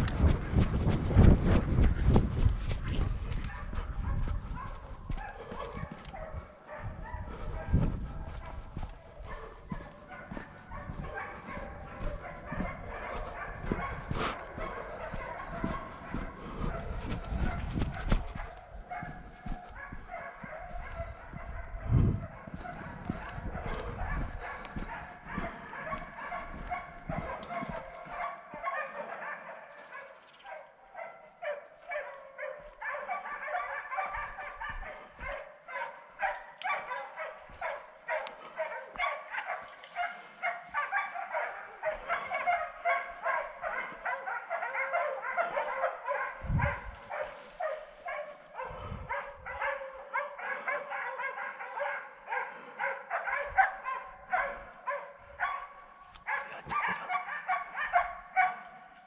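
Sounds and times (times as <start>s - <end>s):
hounds barking and baying: 0.0s - 59.0s.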